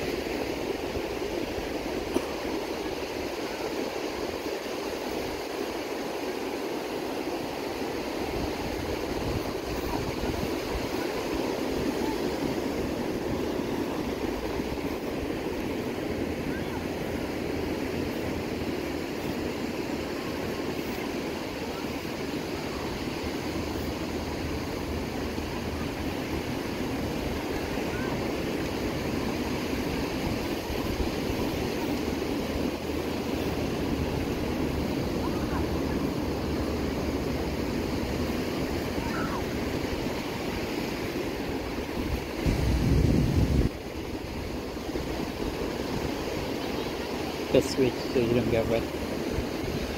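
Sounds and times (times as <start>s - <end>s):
surf washing onto beach: 0.0s - 49.9s.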